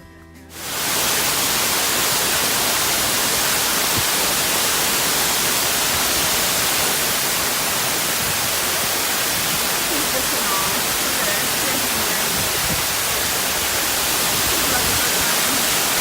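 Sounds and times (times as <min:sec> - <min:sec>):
waterfall rushing: 0:00.5 - 0:16.0.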